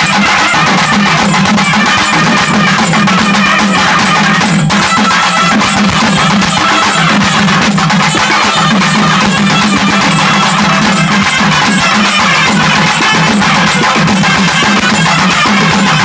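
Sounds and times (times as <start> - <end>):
drums beaten rapidly with sticks: 0.0 - 16.0
wind instruments playing melody: 0.0 - 16.0.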